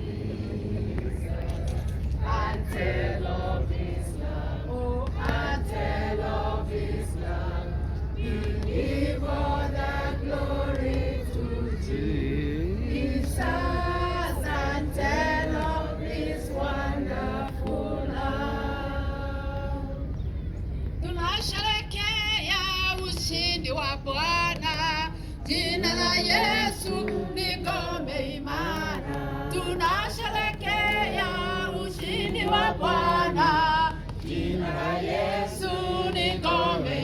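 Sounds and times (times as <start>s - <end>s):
group singing a hymn: 0.0s - 20.3s, 24.4s - 37.0s
low rumble: 0.0s - 37.0s.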